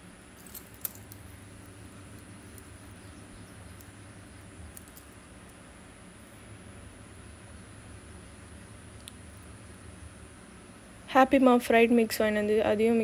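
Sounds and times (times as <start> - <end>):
faint background hum and hiss: 0.0 - 13.0.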